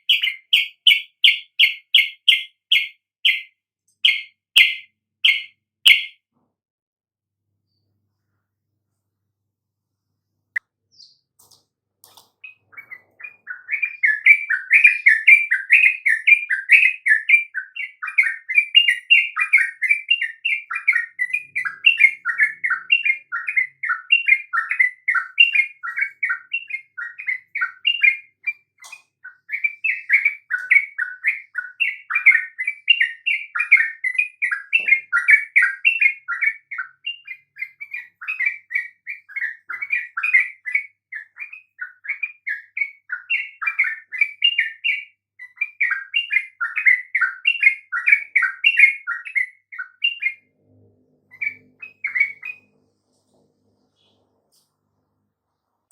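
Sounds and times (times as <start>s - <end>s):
bulbul singing: 0.0s - 6.2s, 10.9s - 11.5s, 12.3s - 50.5s, 51.3s - 53.2s.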